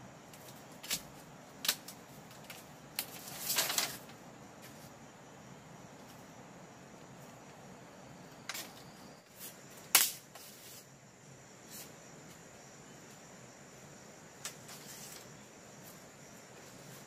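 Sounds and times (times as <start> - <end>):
faint insect drone: 0.0 - 17.0.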